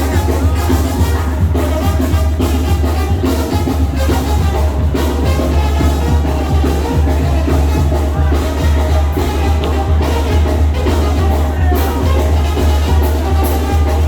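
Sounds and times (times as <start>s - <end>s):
latin dance band music: 0.0s - 14.0s.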